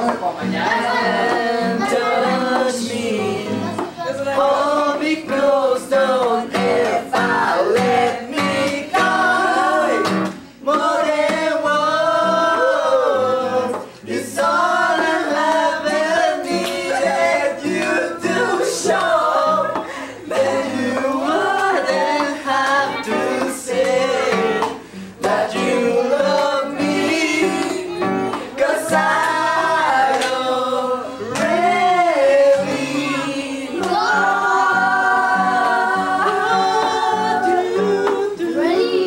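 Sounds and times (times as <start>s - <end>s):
classical guitar: 0.0s - 39.0s
man and woman singing: 0.0s - 39.0s.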